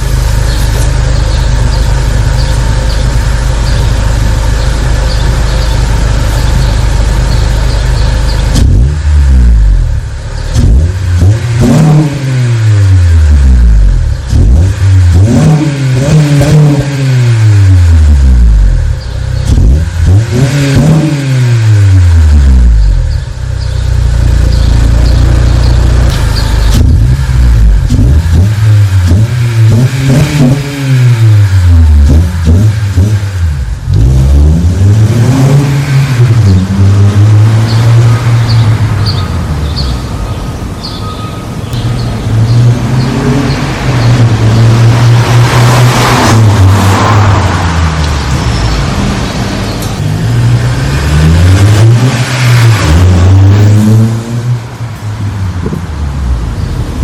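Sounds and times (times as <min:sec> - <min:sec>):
car engine exhaust drone: 0:00.0 - 0:57.0.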